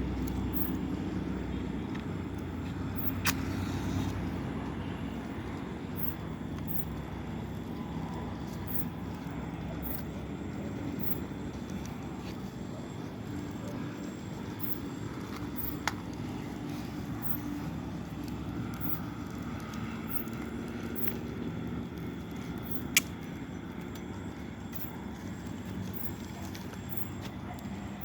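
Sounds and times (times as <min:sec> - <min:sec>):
campfire burning: 0:00.0 - 0:28.0
burning wood popping: 0:00.3 - 0:27.8.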